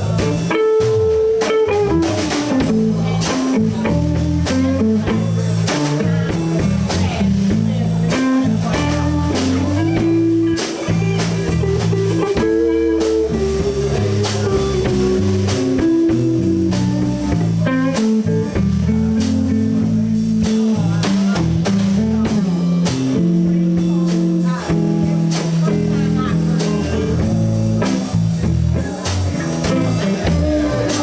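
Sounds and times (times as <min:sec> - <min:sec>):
blues band playing: 0:00.0 - 0:31.0
lead guitar line: 0:00.0 - 0:31.0.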